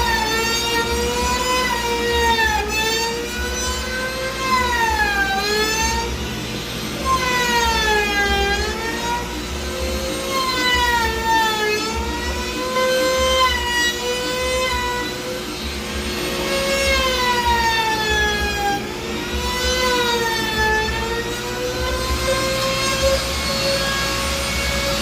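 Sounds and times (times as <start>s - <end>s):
electric router cutting wood: 0.0s - 25.0s.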